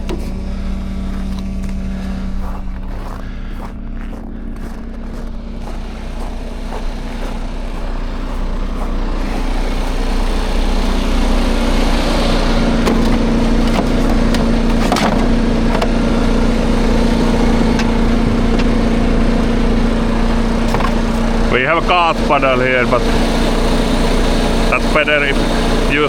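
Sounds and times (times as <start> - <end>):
diesel truck engine drone: 0.0 - 26.0.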